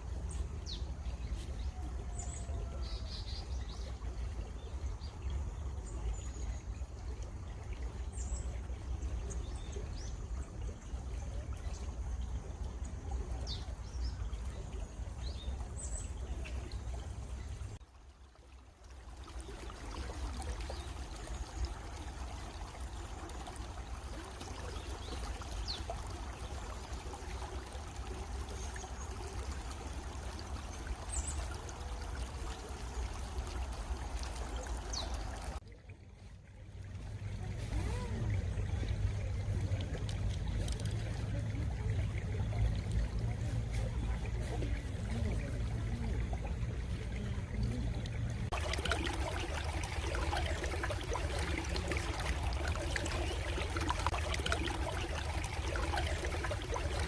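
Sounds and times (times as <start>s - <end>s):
stream water trickling: 0.0s - 57.0s.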